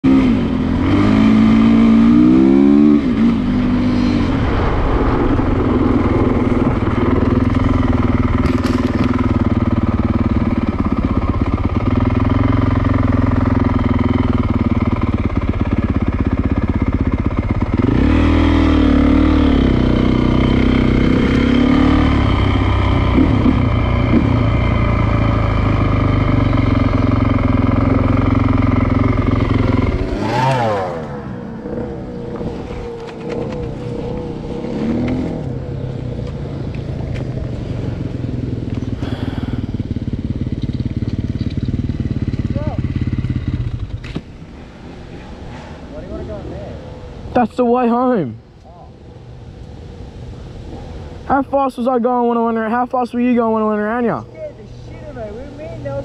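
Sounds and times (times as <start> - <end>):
motorbike engine revving: 0.0 - 46.2.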